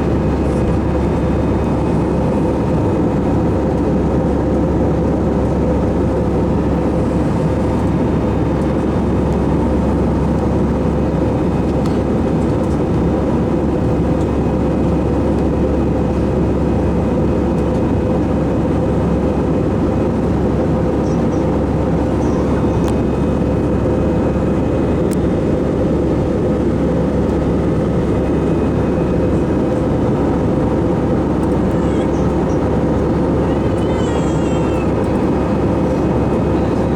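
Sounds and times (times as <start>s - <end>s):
jet cabin engine rush and drone: 0.0s - 36.9s.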